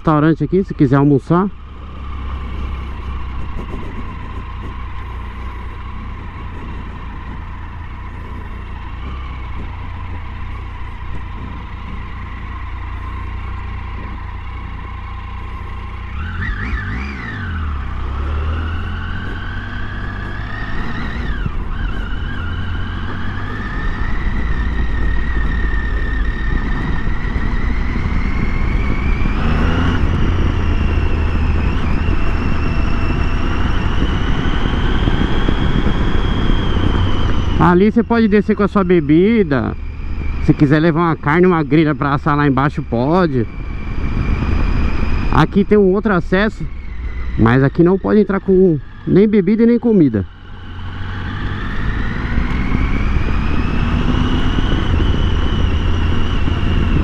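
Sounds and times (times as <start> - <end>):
motorcycle engine accelerating: 0.0 - 57.0
wind rumble on microphone: 0.0 - 57.0.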